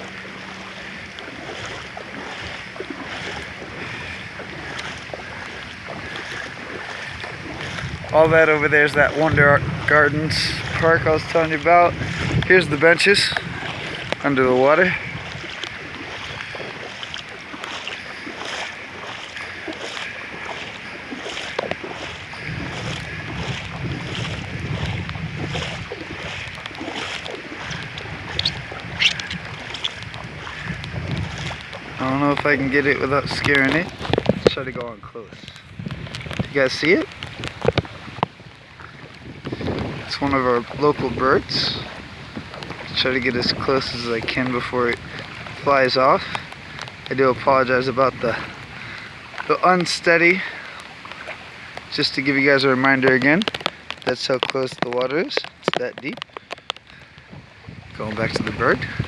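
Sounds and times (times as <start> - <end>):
footsteps splashing through water: 0.0 - 59.0
wind buffeting microphone: 0.0 - 59.0.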